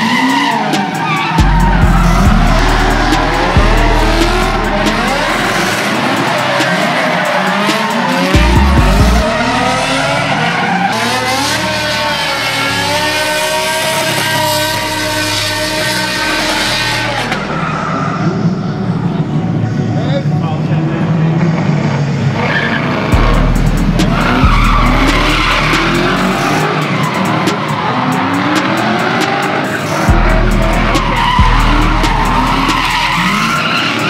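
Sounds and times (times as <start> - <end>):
tyres screeching: 0.0 - 18.5, 22.4 - 34.0
car engines revving: 0.0 - 34.0.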